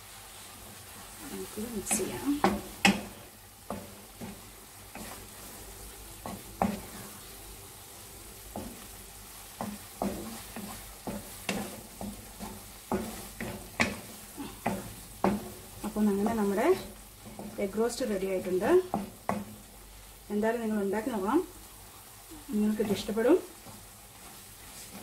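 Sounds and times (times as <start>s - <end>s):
masala sizzling: 0.0s - 25.0s
wooden spatula scraping a pan: 0.2s - 25.0s.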